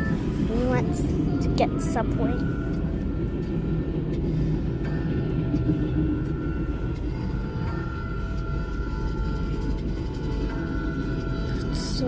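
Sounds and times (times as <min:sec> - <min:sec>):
faint steady tones: 0:00.0 - 0:12.0
train rumbling past: 0:00.0 - 0:12.0.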